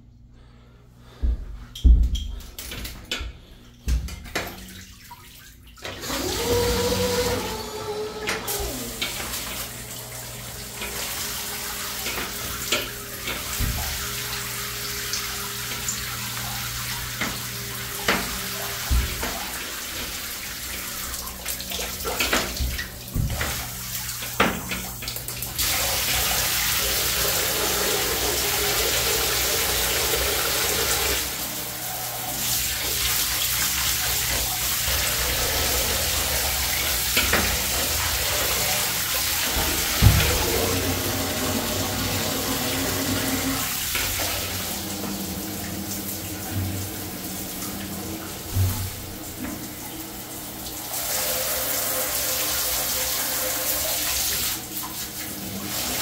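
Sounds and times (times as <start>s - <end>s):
water running into bathtub: 0.0s - 56.0s.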